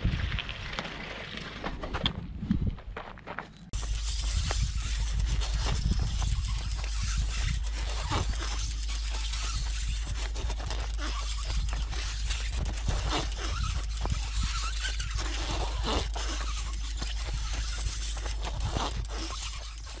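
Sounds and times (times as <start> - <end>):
wind buffeting microphone: 0.0 - 3.1, 3.8 - 19.4
bicycle tyres on rough surface: 0.0 - 20.0
small rattles and clicks: 3.8 - 20.0.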